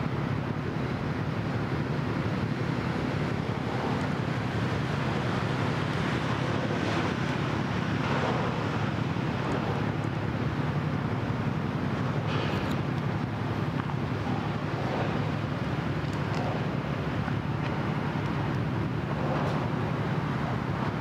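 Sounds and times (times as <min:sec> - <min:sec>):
boat engines droning: 0:00.0 - 0:21.0
wind buffeting microphone: 0:00.0 - 0:21.0.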